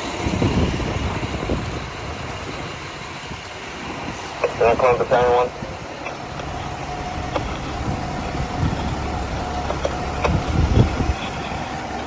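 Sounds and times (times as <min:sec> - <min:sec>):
vehicle engine idling: 0:00.9 - 0:12.0.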